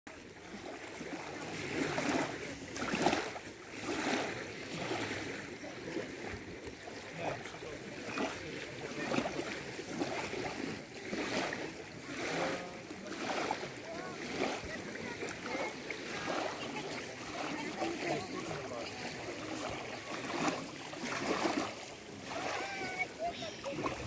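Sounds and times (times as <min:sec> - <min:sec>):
waves lapping on gravel shore: 0:00.1 - 0:24.0.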